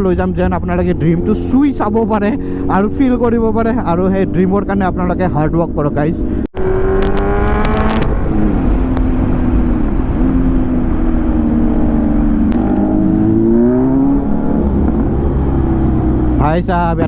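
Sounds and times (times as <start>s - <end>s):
motorcycle engine revving: 0.0s - 17.0s
wind rumble on microphone: 0.0s - 17.0s.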